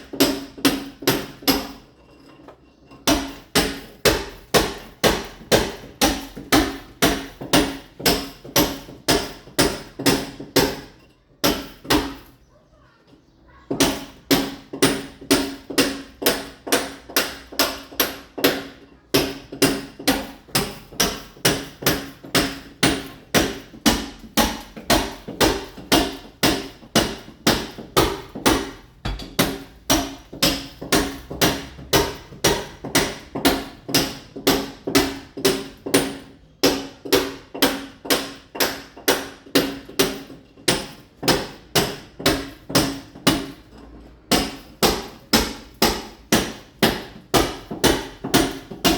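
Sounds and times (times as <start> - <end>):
hammer chipping masonry wall: 0.0 - 48.9.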